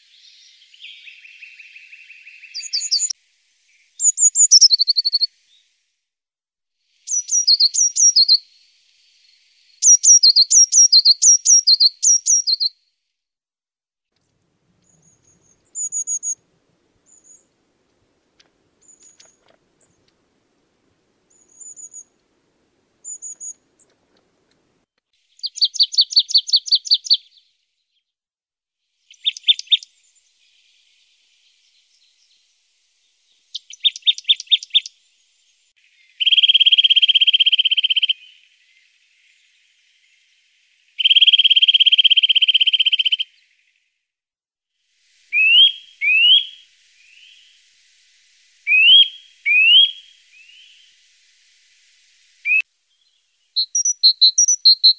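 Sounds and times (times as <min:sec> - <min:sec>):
small songbirds calling and singing: 0:00.0 - 0:05.9, 0:06.9 - 0:12.8, 0:14.2 - 0:16.4, 0:17.0 - 0:17.6, 0:18.8 - 0:20.2, 0:21.3 - 0:22.2, 0:23.0 - 0:24.0, 0:25.2 - 0:28.0, 0:29.0 - 0:44.1, 0:44.8 - 0:54.9.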